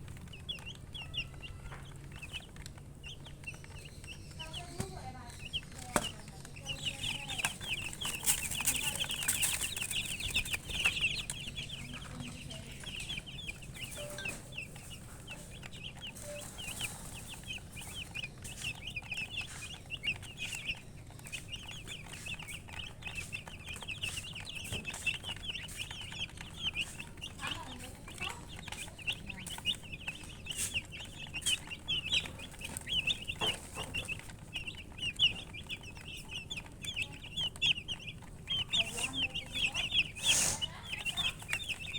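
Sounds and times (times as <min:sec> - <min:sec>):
baby chicks peeping: 0:00.0 - 0:41.9.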